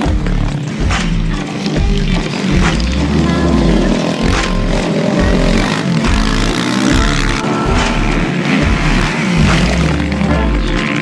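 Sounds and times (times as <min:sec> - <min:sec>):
dirt bike engine revving: 0:00.0 - 0:11.0
music with steady bass beat: 0:00.0 - 0:11.0.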